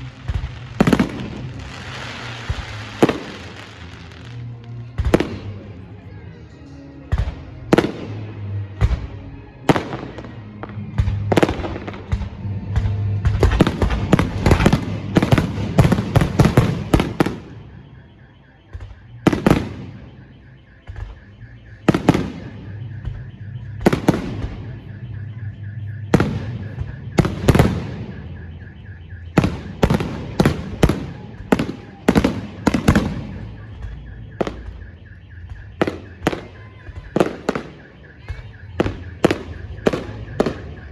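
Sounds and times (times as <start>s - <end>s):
fireworks bursting with bangs: 0.0s - 6.0s, 7.0s - 40.9s.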